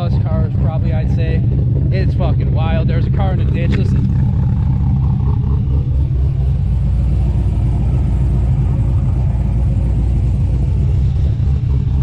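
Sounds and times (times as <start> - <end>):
car engine choppy idle: 0.0 - 12.0.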